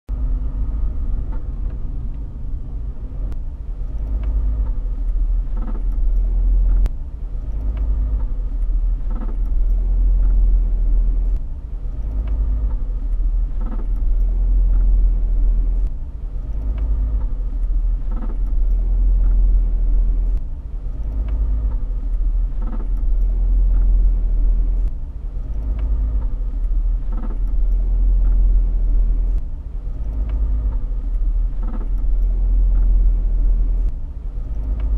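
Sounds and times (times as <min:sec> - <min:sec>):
car engine droning: 0:00.1 - 0:34.9.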